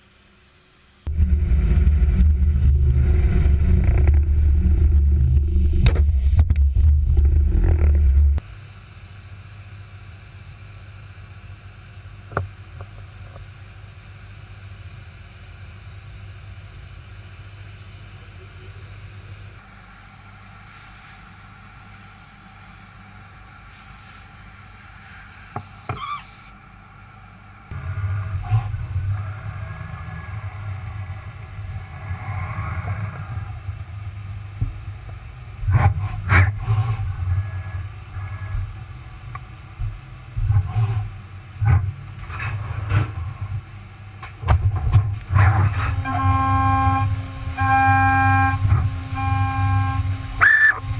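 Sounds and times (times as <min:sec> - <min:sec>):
low machine hum: 0:00.0 - 0:50.9.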